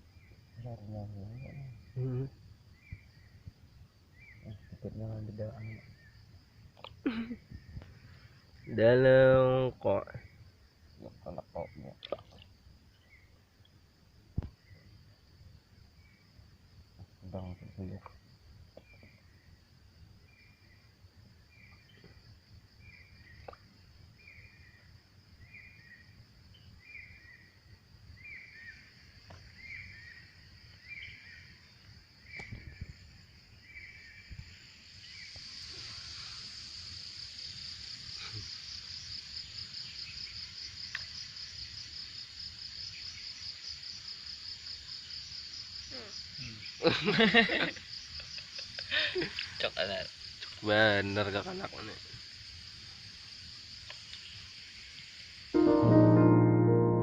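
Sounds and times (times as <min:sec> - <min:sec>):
insects buzzing high-pitched: 0:00.0 - 0:57.0.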